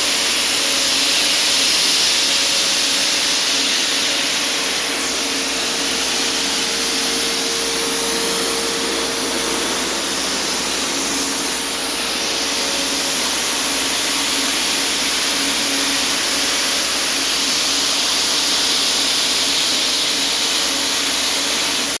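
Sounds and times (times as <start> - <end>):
soda blaster rushing hiss: 0.0 - 22.0.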